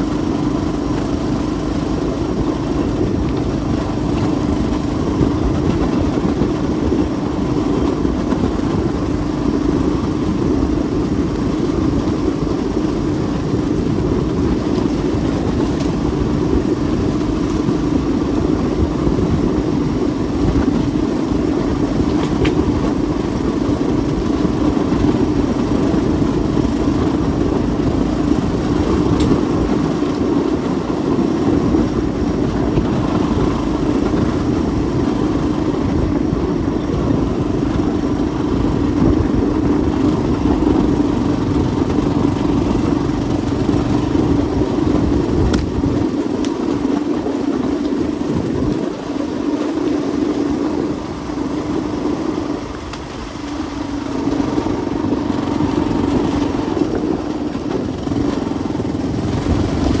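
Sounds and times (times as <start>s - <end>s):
engine droning hum: 0.0s - 60.0s.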